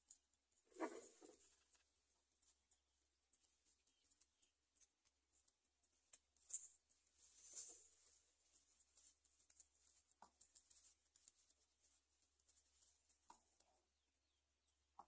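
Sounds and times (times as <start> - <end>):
faint ticks and clicks: 1.5 - 13.8.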